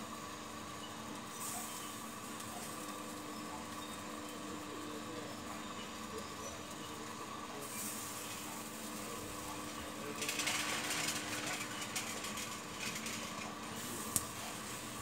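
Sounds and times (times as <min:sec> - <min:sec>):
rotisserie motor humming: 0:00.2 - 0:15.0.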